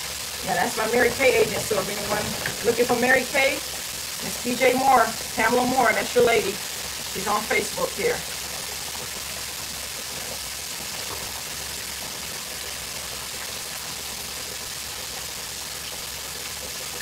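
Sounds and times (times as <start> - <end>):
meat sizzling in deep fryer: 0.0 - 17.0.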